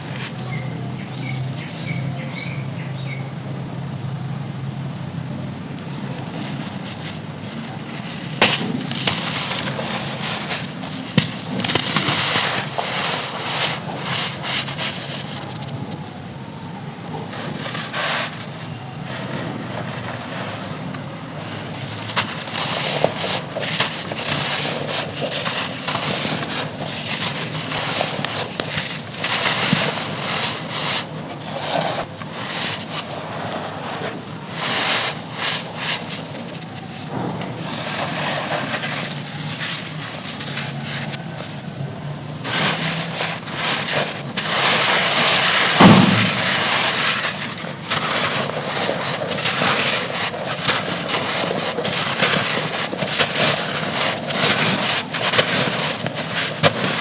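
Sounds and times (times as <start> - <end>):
dirt crumbling and crunching: 5.6 - 16.0, 16.7 - 57.0.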